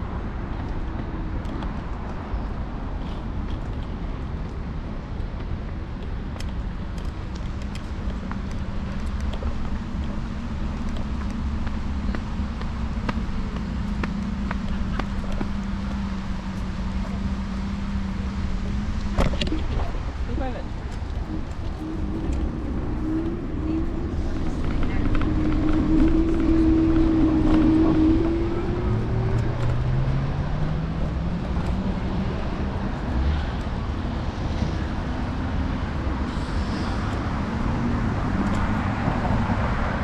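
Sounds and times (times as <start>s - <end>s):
city street traffic: 0.0s - 40.0s
wind on microphone: 0.0s - 40.0s.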